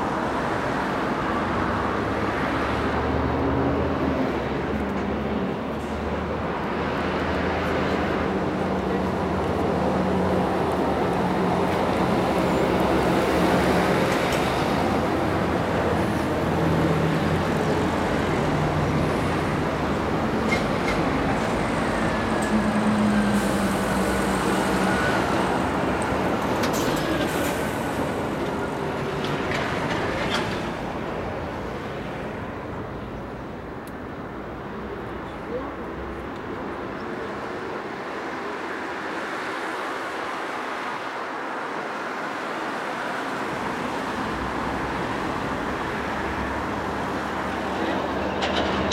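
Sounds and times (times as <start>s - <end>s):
cars passing: 0.0s - 48.9s
heavy trucks passing: 0.0s - 48.9s.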